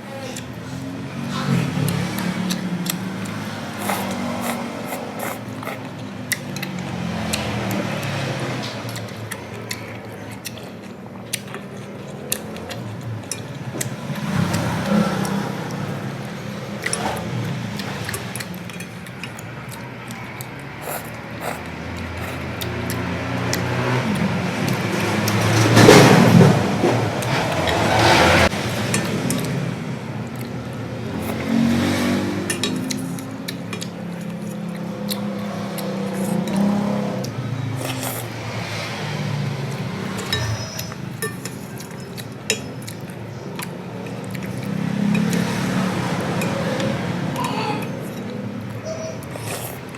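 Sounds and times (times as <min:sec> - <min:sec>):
utensils clinking against a bowl: 0:00.2 - 0:29.7, 0:30.3 - 0:49.9
person chewing: 0:00.2 - 0:49.9.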